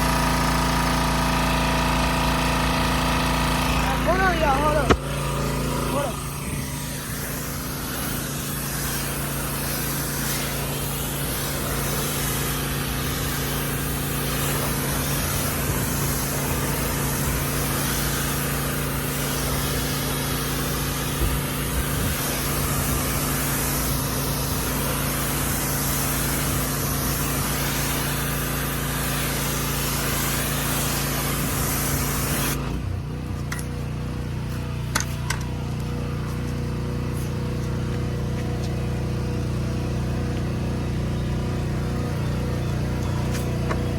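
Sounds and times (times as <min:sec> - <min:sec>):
water spraying hiss: 0:00.0 - 0:32.8, 0:40.8 - 0:43.9
engine running: 0:00.0 - 0:43.9.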